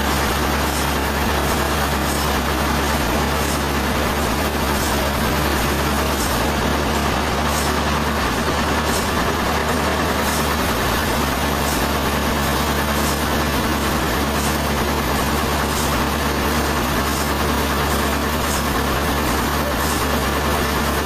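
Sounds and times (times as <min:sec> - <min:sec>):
sawmill machinery humming: 0:00.0 - 0:21.0.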